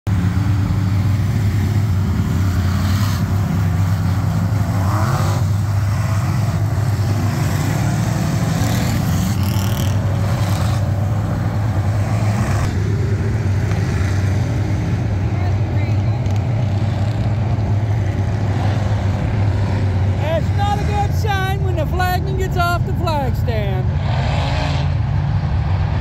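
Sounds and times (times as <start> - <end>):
race car engines roaring: 0.1 - 26.0.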